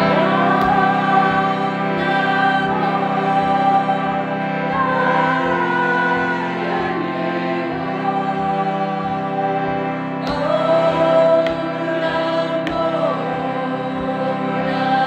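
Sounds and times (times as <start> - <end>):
slow gliding melody: 0.0 - 15.0
steady low drone: 0.0 - 15.0.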